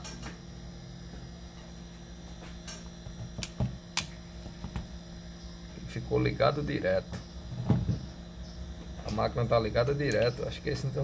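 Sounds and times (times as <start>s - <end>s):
angle grinder motor humming: 0.0s - 11.0s.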